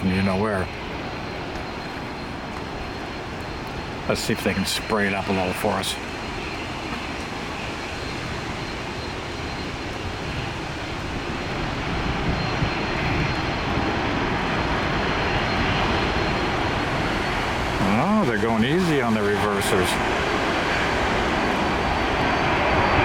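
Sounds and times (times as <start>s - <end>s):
jet airliner engines roaring: 0.0s - 23.0s.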